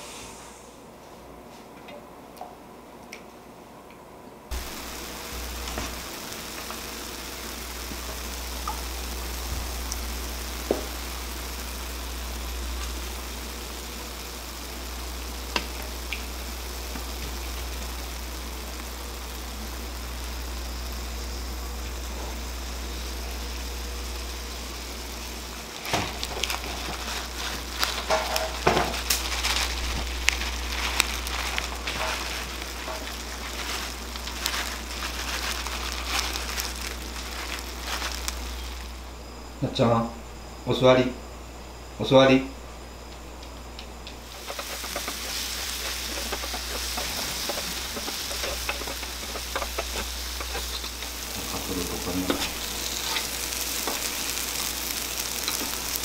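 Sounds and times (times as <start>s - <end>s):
oil crackling and popping: 4.5s - 39.0s, 44.1s - 56.0s
batter sizzling on hot griddle: 4.5s - 39.2s, 43.4s - 56.0s
low hum: 4.5s - 56.0s.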